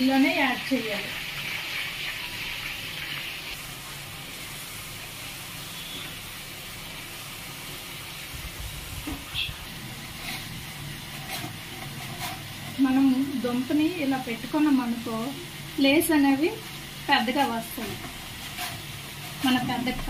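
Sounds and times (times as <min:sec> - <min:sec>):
potatoes sizzling in hot oil: 0:00.0 - 0:20.0.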